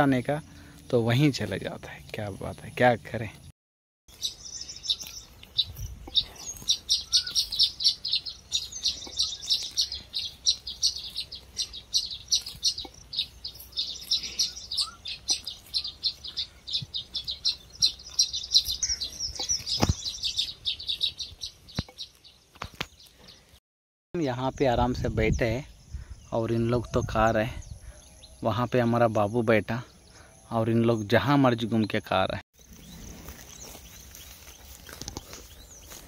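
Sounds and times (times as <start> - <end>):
birds chirping in chatter: 4.1 - 23.6, 25.3 - 36.0.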